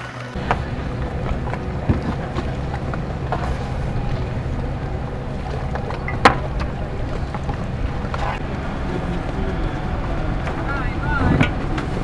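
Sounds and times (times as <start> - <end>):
knocks on boat: 0.4 - 12.0
low rumble of wind and water: 0.4 - 12.0.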